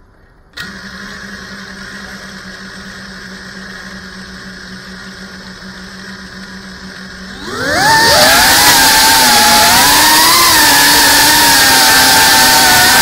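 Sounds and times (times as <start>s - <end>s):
drone motors humming: 0.6s - 13.0s.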